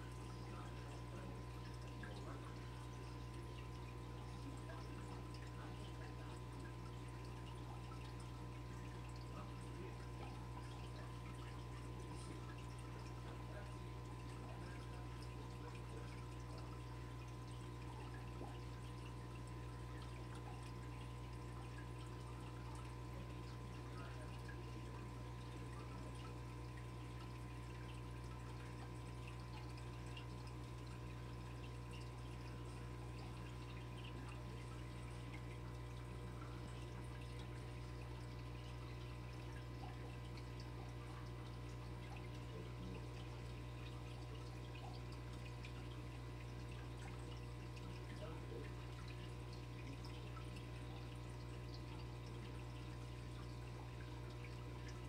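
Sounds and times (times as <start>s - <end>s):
low electric hum: 0.0s - 55.0s
water trickling and bubbling: 0.0s - 55.0s.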